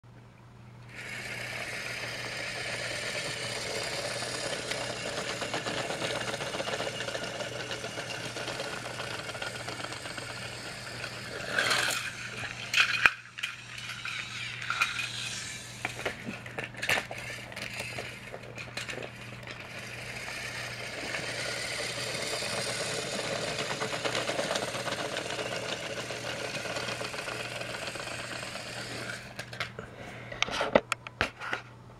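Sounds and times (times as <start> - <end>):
plastic wheels rattling on track: 0.9 - 29.7
toy train motors whirring: 0.9 - 30.8
sharp clicks and clatter: 1.0 - 29.8.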